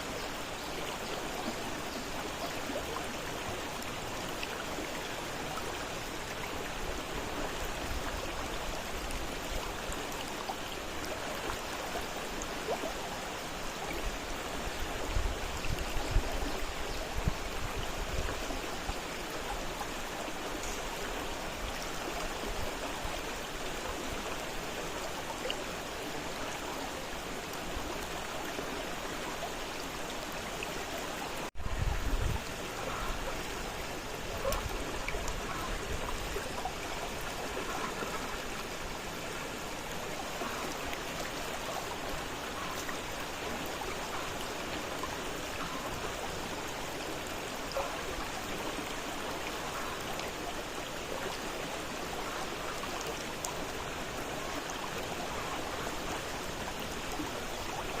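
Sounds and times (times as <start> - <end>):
fast-flowing river: 0.0 - 58.0.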